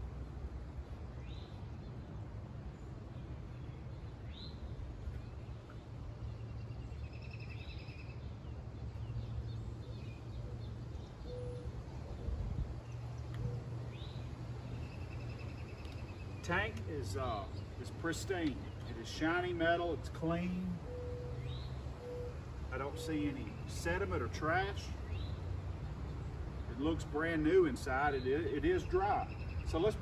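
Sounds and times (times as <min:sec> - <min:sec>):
songbirds calling: 0:00.0 - 0:30.0.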